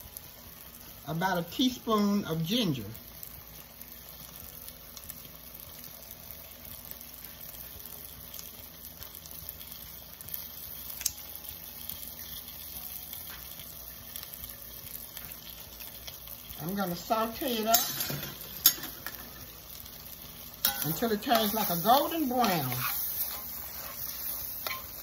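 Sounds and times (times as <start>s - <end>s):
onions sizzling in pan: 0.0s - 25.0s.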